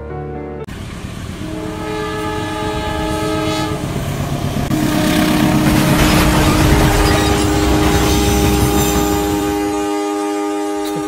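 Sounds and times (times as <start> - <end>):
train rumbling: 0.7 - 11.0
locomotive horn chord: 1.3 - 11.0.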